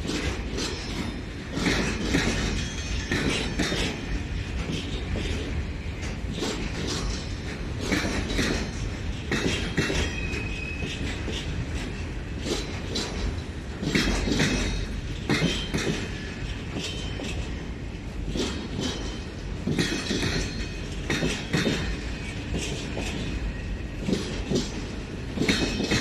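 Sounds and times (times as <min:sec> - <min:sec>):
train rumble: 0:00.0 - 0:26.0
train wheels clunking over rail joints: 0:00.0 - 0:26.0.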